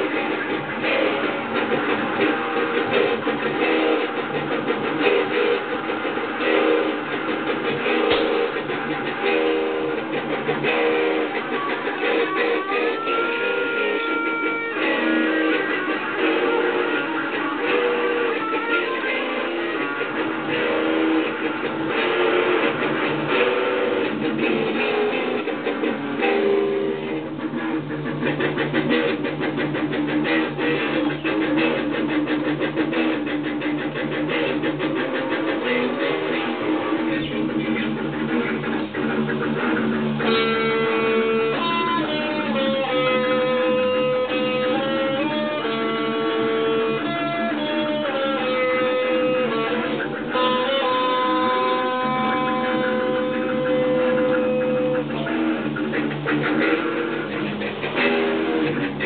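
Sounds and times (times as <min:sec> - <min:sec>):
electric guitars strumming chords: 0:00.0 - 0:59.0.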